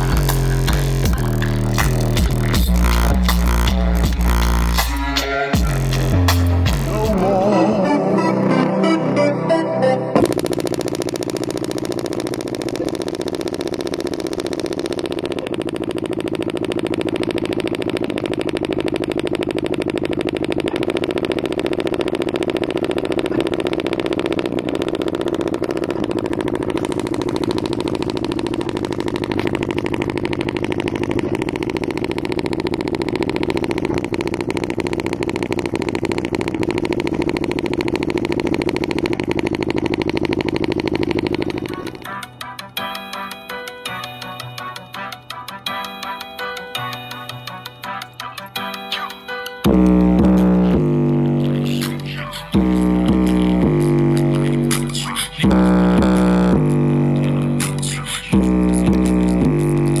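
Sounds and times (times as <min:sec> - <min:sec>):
loud buzzing drone: 0:00.0 - 1:00.0
portable speaker playing bass-heavy music: 0:00.0 - 1:00.0.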